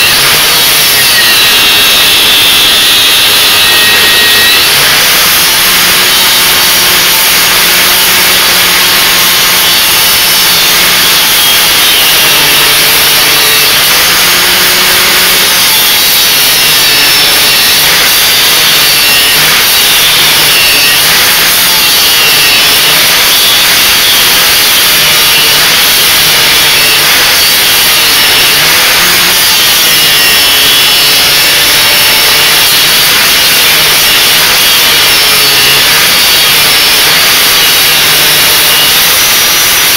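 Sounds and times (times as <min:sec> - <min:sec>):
grinder grinding steel: 0:00.0 - 0:39.9.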